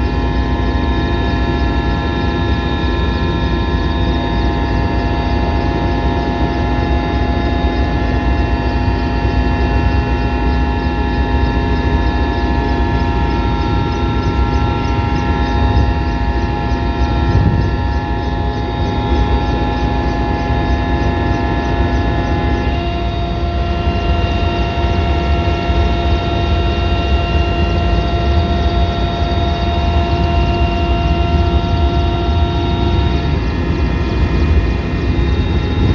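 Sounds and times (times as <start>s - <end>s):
aircraft engines from cabin: 0.0s - 35.9s.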